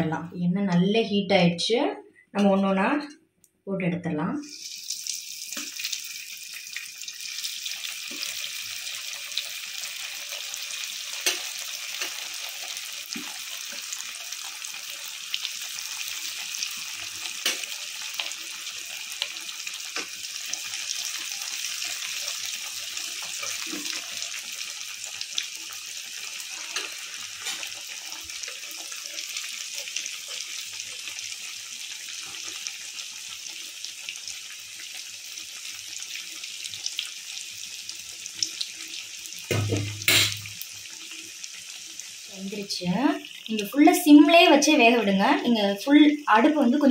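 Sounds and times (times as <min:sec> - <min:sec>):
oil sizzling with sharp pops: 0:04.5 - 0:44.7.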